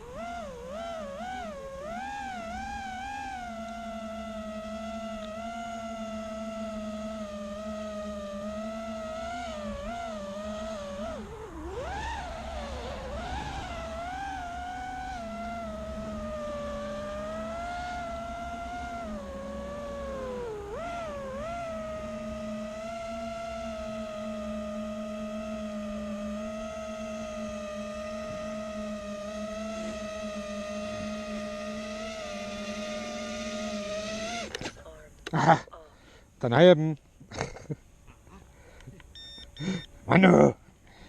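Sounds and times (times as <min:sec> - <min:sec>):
quadcopter motors whining: 0:00.0 - 0:36.6, 0:37.3 - 0:41.0.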